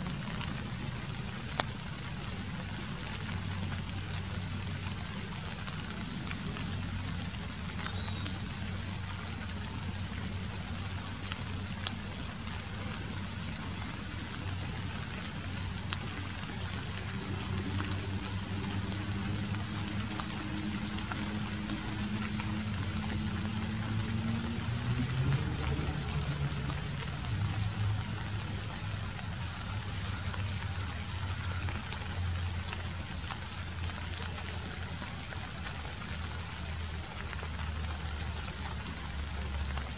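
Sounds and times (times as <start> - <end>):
low engine-like drone: 0.0 - 39.9
rain pattering: 0.0 - 39.9.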